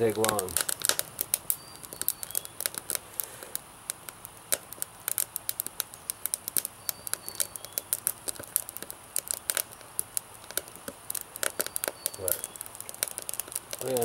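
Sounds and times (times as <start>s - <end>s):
twigs crackling and popping in fire: 0.0s - 14.0s.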